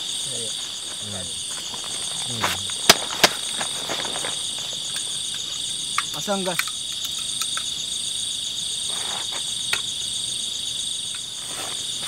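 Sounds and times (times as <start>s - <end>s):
forest insects buzzing: 0.0s - 12.0s.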